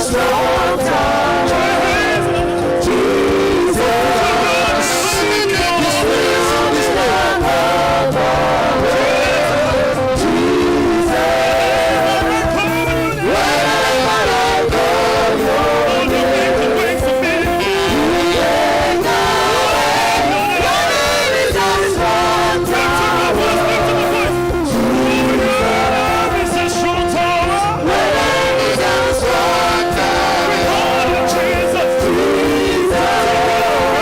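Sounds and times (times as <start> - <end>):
band accompaniment: 0.0 - 34.0
congregation singing praise song: 0.0 - 34.0.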